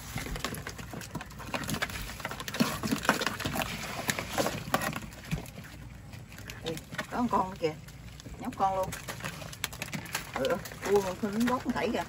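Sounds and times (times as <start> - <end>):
gloved hands rustling wet debris: 0.0 - 12.0.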